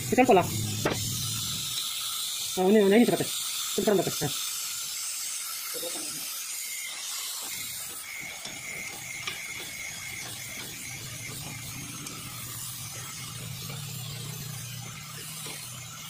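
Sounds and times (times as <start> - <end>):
ratchet wrench clicking: 0.0 - 16.0.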